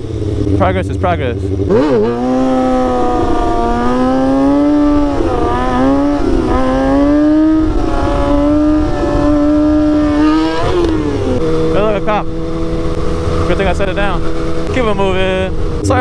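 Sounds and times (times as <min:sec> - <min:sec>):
sport bike engine revving high: 0:00.0 - 0:16.0
wind buffeting microphone: 0:00.0 - 0:16.0.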